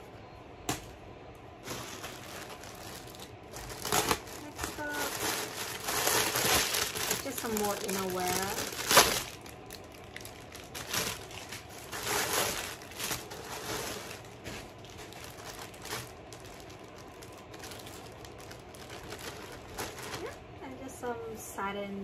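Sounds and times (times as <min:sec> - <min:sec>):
plastic bag crinkling: 0:01.6 - 0:20.5.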